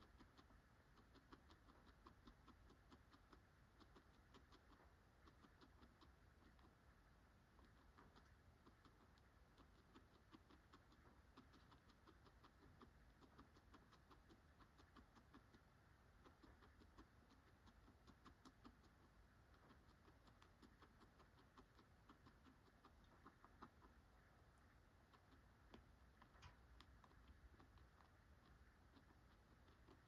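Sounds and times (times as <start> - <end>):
guinea pig crunching pellets: 0.0 - 30.0.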